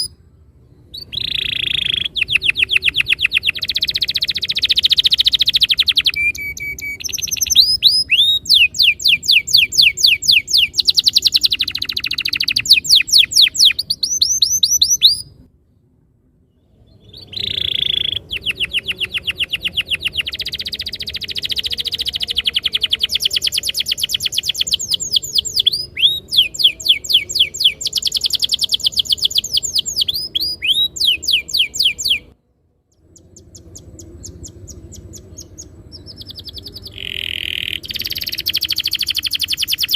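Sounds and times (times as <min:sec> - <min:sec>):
canary singing trills: 0:00.0 - 0:15.5, 0:16.6 - 0:39.9.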